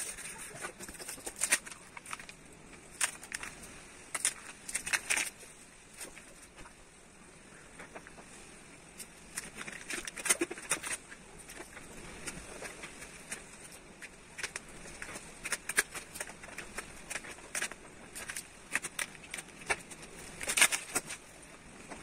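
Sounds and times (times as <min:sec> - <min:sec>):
vinyl wrap film crackling: 0:00.0 - 0:06.9, 0:08.8 - 0:22.0.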